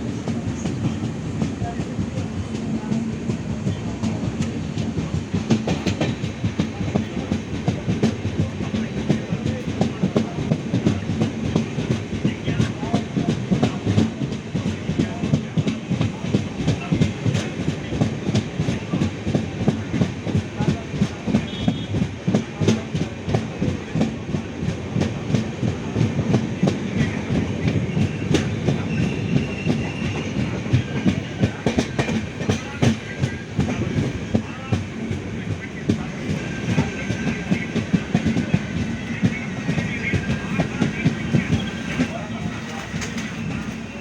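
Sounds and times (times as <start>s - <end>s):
train coaches rumbling: 0.0s - 44.0s.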